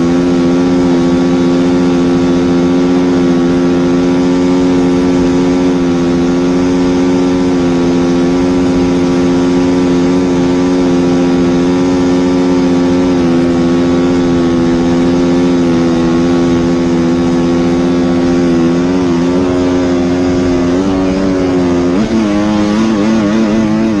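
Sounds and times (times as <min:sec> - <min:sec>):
engine running steady: 0:00.0 - 0:24.0.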